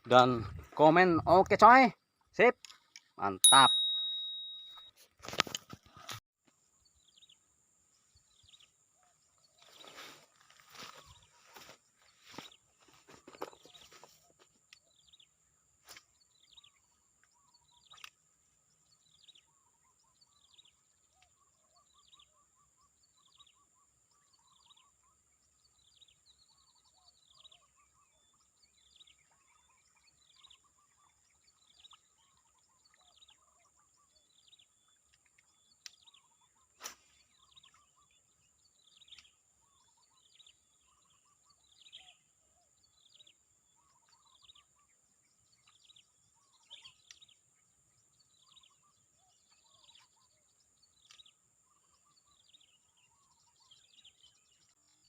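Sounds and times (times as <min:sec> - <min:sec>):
birds calling: 0:08.2 - 0:55.0.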